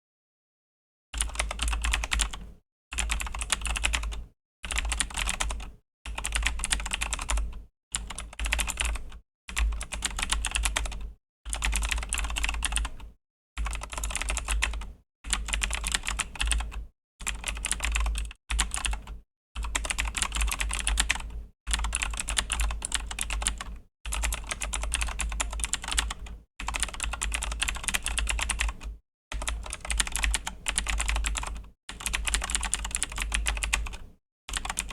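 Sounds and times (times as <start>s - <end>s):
mechanical keyboard typing: 1.2s - 34.9s.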